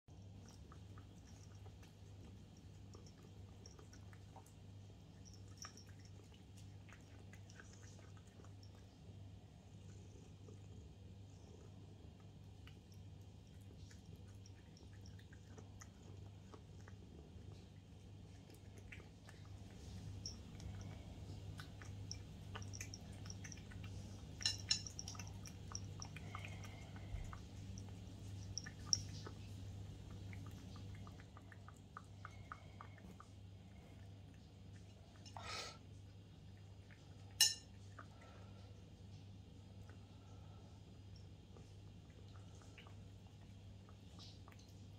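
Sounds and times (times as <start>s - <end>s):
cat chewing wet food: 0.1s - 44.9s.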